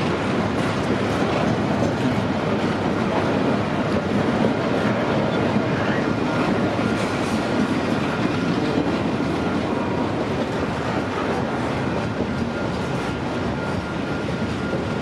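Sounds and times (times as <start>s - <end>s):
steel train wheels on rail: 0.0s - 15.0s.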